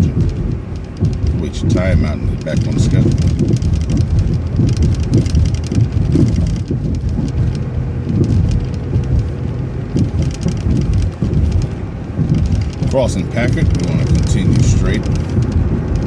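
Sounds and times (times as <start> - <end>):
bus engine rumbling: 0.0 - 16.0
light rattles and clicks: 0.0 - 16.0.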